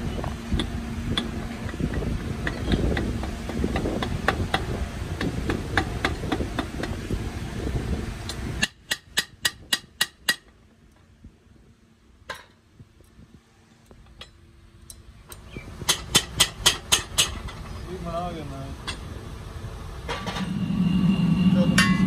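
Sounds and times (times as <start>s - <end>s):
low machine noise: 0.0s - 8.9s, 10.4s - 22.0s.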